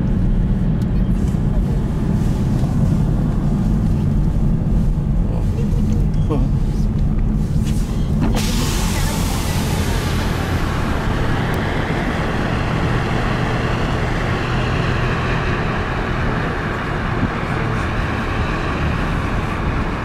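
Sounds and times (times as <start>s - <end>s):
car tyre and engine rumble: 0.0s - 20.0s
rushing air: 1.2s - 20.0s.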